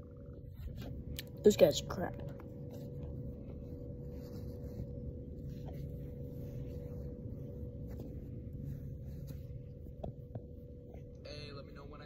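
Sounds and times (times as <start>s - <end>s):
faint constant tone: 0.0s - 12.0s
low background hum: 0.0s - 12.0s.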